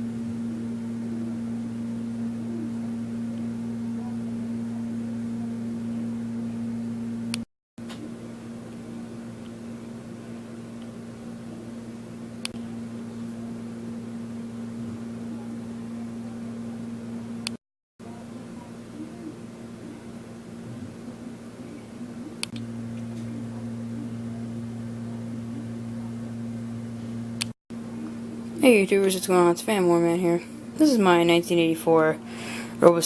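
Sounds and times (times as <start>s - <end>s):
electric fan motor hum: 0.0s - 33.0s
fan air rushing: 0.0s - 33.0s.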